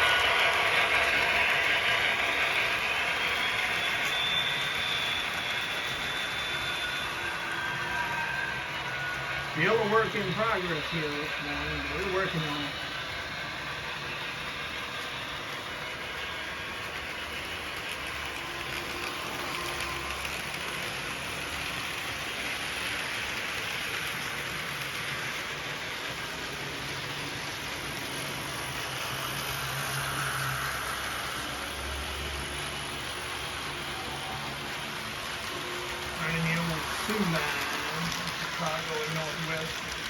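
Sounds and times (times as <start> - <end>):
model train motor whirring: 0.0 - 40.0.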